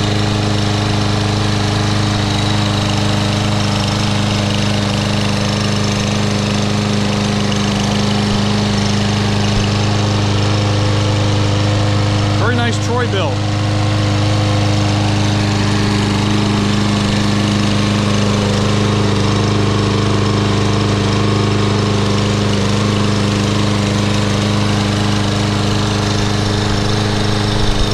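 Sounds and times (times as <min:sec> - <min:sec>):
lawn mower engine running: 0:00.0 - 0:27.9.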